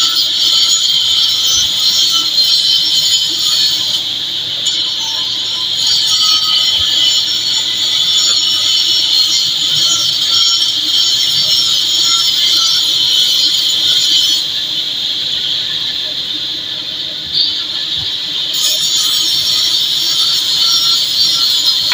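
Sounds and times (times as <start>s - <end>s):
cutting torch hissing: 0.0s - 21.9s.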